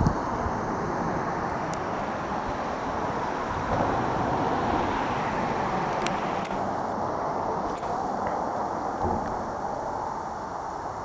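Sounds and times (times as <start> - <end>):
tyres rushing on road deck: 0.0 - 11.0.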